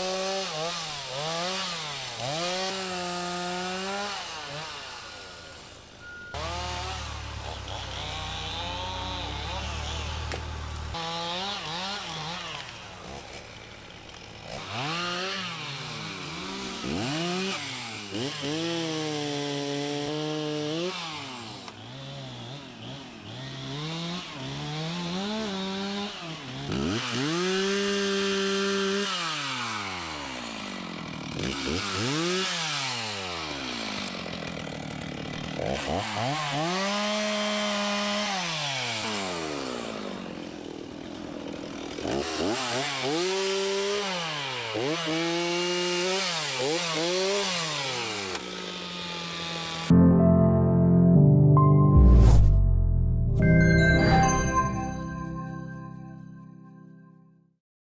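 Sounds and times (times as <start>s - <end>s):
chainsaw revving: 0.0s - 50.0s.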